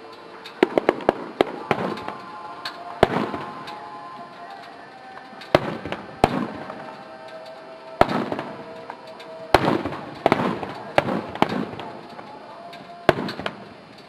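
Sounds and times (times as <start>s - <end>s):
fireworks bursting with echo: 0.0s - 14.0s.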